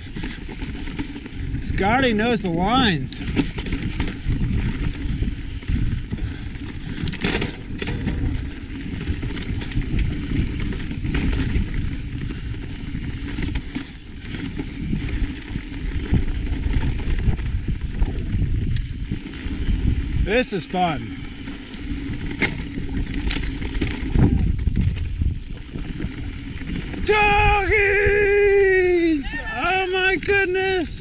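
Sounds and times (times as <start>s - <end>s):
bike rattling and clicking: 0.0s - 31.0s
wind on microphone: 0.0s - 31.0s.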